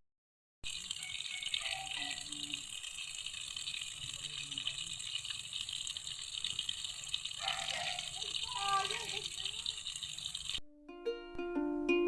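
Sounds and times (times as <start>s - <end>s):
running water: 0.6s - 10.6s.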